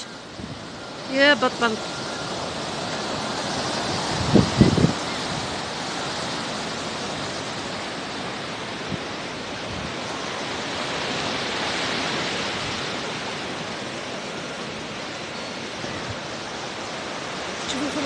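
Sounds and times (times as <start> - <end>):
sea surf on a beach: 0.0 - 18.0.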